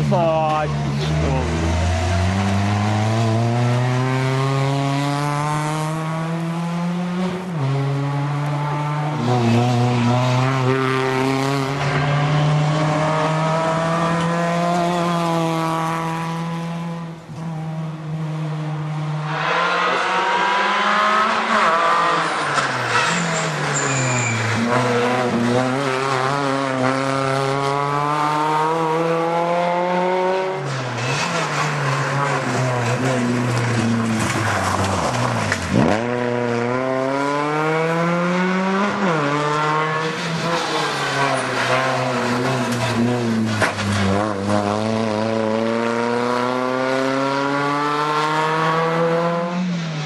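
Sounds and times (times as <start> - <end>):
rally car engine revving hard: 0.9 - 50.0.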